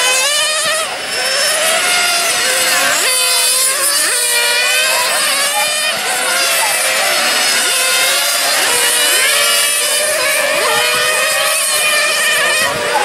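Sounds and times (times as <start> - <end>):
small model car engines whining: 0.0 - 13.0.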